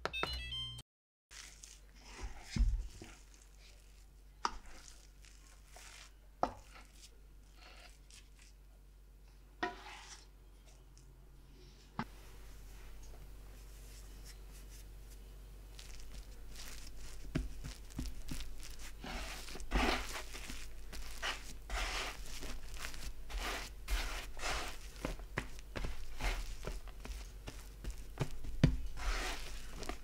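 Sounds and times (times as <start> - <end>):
hands kneading dough: 1.3 - 8.6, 12.0 - 30.0.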